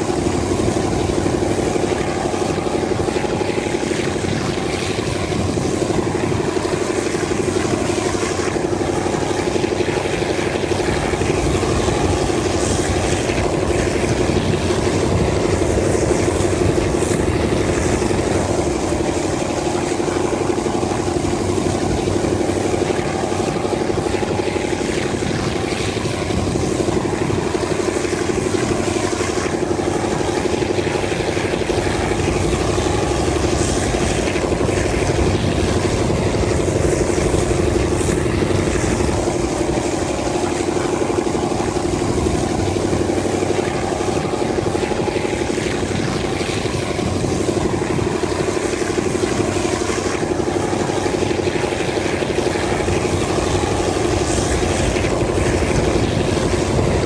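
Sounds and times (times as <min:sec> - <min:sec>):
locomotive engine drone: 0:00.0 - 0:57.0.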